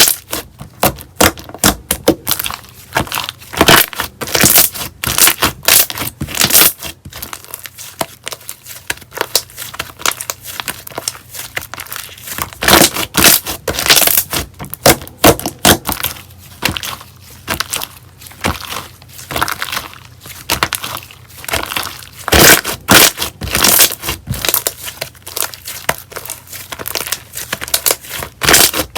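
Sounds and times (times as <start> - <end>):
slime squished by hand: 0.0 - 28.9.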